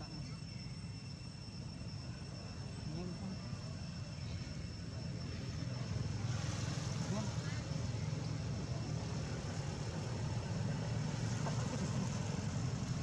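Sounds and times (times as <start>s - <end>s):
thin high tone: 0.0s - 12.6s
steady low rumble: 0.0s - 13.0s.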